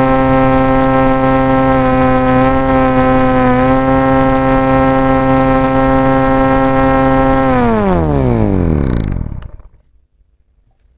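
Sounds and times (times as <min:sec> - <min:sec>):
small motor whining: 0:00.0 - 0:09.8.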